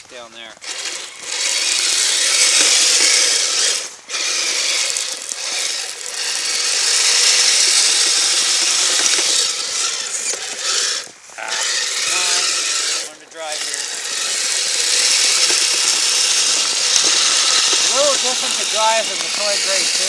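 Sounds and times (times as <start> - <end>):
toy motor whirring and clattering: 0.0 - 20.0.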